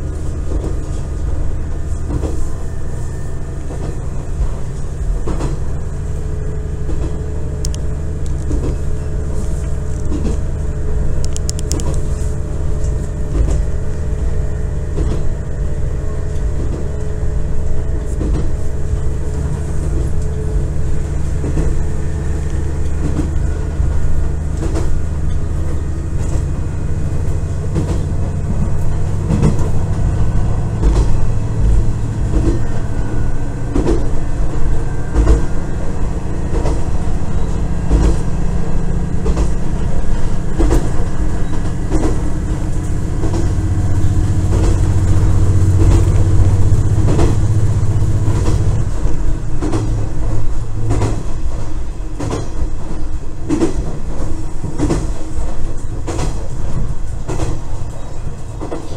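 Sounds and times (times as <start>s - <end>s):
diesel engine drone: 0.0s - 58.9s
wheels clacking over rail joints: 0.0s - 58.9s.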